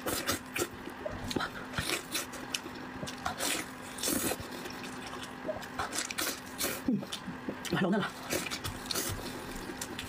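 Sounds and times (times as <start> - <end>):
faint steady hum: 0.0 - 10.0
wet chewing and smacking: 0.0 - 10.0.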